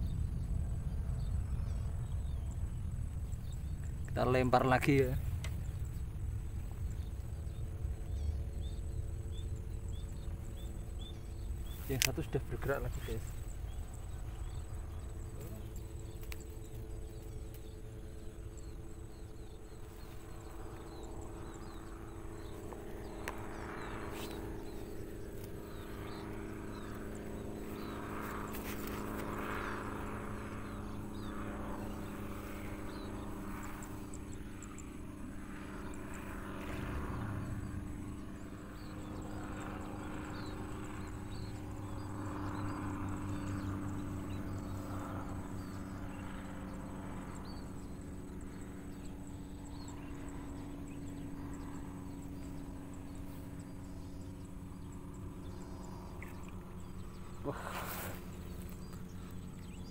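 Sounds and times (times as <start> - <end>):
low motor hum: 0.0 - 59.9.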